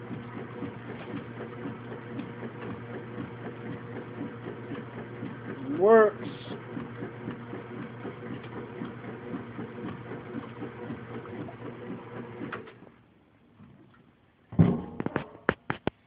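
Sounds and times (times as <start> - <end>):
washing machine rhythmic whir: 0.0 - 13.9.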